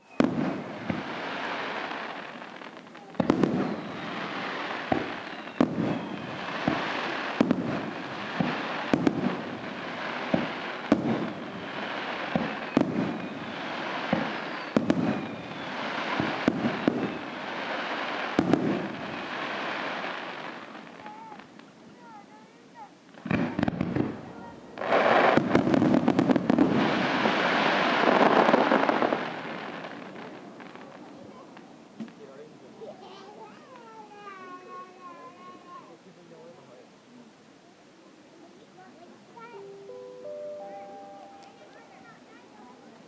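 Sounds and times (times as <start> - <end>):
fireworks bangs: 0.0 - 36.5
fireworks crackling hiss: 0.0 - 43.0.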